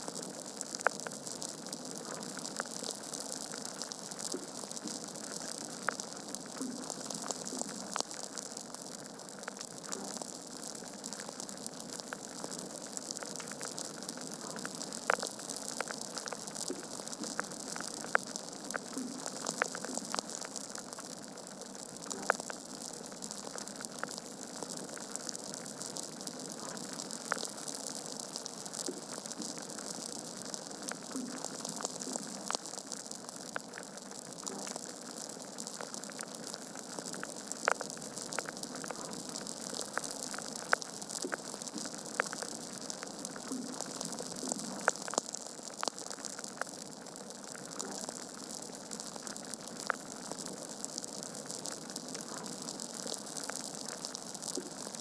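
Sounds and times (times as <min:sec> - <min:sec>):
wood fire crackling and popping: 0:00.1 - 0:55.0.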